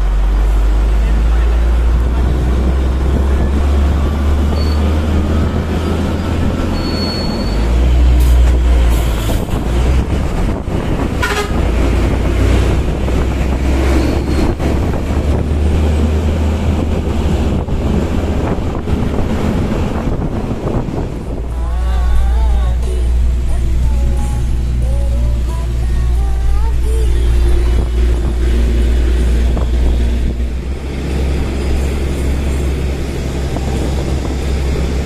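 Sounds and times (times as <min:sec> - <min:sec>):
diesel truck engine running: 0:00.0 - 0:35.0
road and wind noise: 0:00.0 - 0:35.0.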